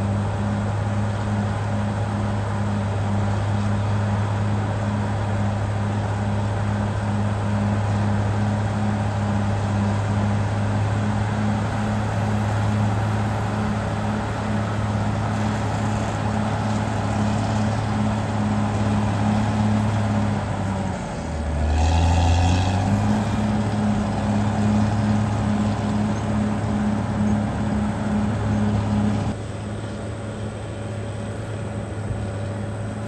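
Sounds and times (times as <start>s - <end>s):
bulldozer diesel engine: 0.0s - 33.0s.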